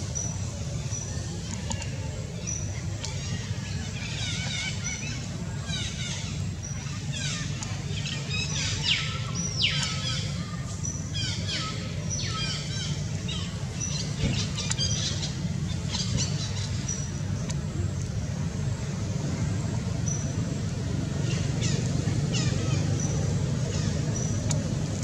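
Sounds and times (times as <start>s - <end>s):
birds chirping: 0.0s - 25.0s
steady low hum: 0.0s - 25.0s.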